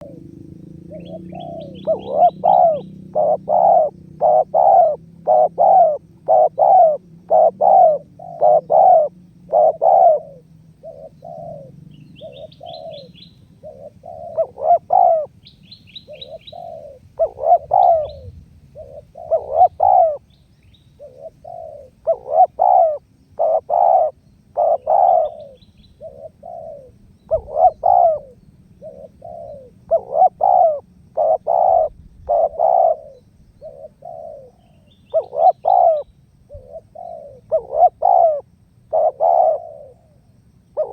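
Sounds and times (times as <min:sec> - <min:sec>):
dove cooing: 0:00.0 - 0:20.4, 0:21.0 - 0:40.9
small bird chirping: 0:00.0 - 0:40.9.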